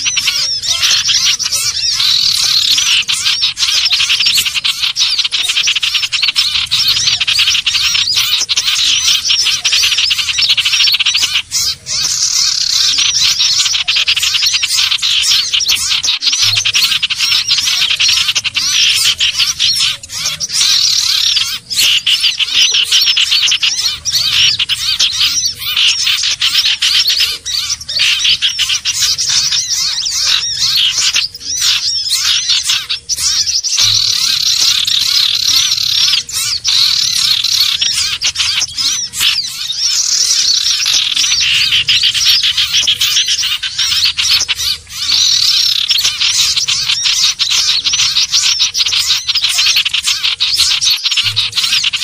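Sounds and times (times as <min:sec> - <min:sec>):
birds chirping and trilling: 0:00.0 - 0:52.0.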